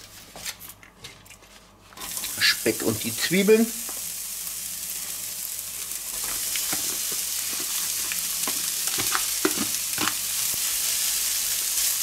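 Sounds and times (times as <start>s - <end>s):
bacon sizzling in a frying pan: 2.0s - 12.0s.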